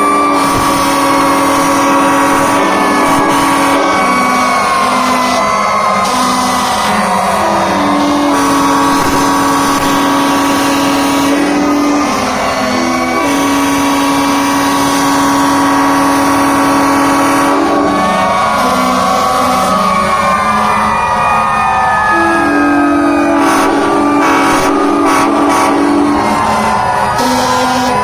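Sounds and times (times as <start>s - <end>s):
fire truck air horns blaring: 0.0s - 28.0s
sirens wailing: 0.0s - 28.0s.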